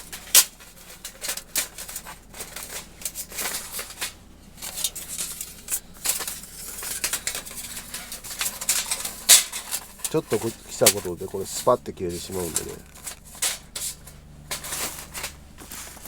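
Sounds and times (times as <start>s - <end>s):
metal plates clinking and scraping: 0.0s - 16.0s.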